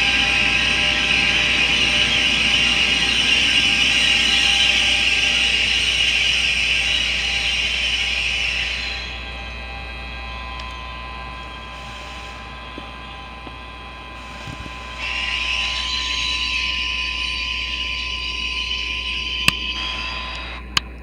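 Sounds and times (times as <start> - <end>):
loud hiss: 0.0 - 9.7, 11.1 - 13.3, 14.0 - 20.6
electric locomotive whine: 0.0 - 21.0.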